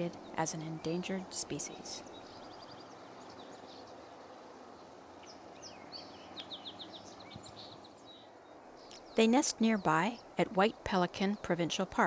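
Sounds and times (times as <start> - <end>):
small songbirds chirping: 0.0 - 12.0
steady background hiss: 0.0 - 12.0.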